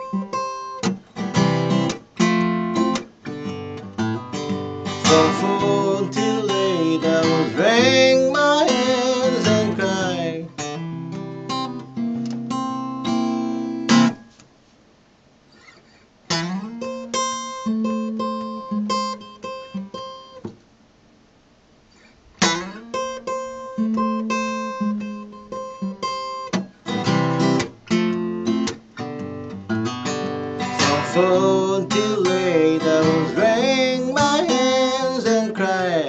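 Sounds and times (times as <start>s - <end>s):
acoustic guitar blues playing: 0.0s - 14.4s, 15.5s - 20.6s, 22.0s - 36.0s.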